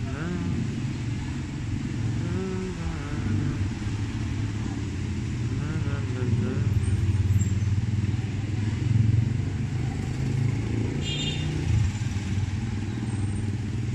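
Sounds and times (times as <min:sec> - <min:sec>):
vehicle engine rumbling: 0:00.0 - 0:13.9.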